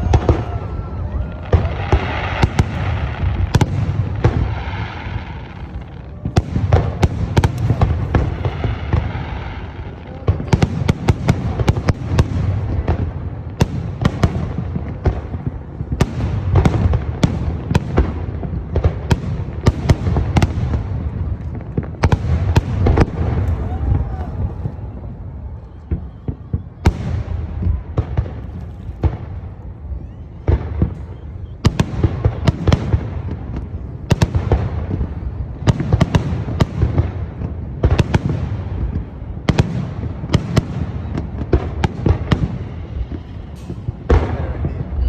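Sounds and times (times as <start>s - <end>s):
fireworks bangs and cracks: 0.0s - 45.0s.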